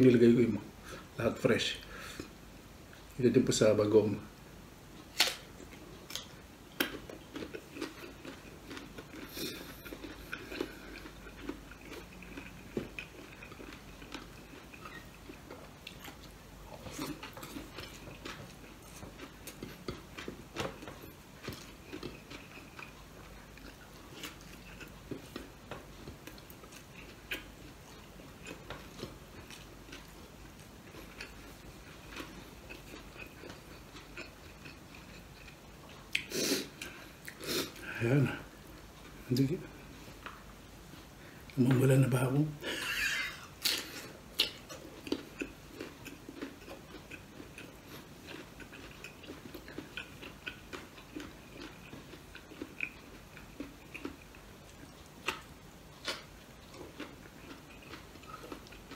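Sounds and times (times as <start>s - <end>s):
person chewing and biting: 5.1s - 40.4s, 42.7s - 58.9s.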